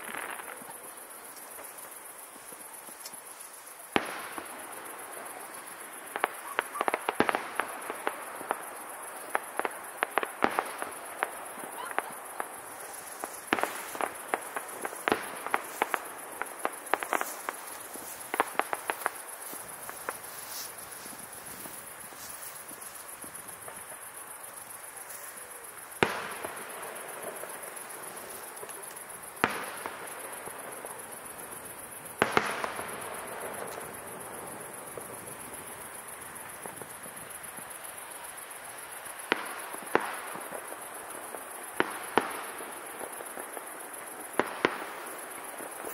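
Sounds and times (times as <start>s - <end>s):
firework bangs and crackles: 0.0s - 45.9s.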